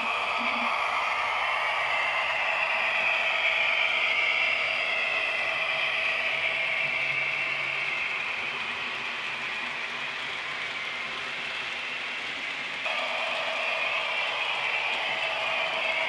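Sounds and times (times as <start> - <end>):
model train motors whirring: 0.0 - 16.0.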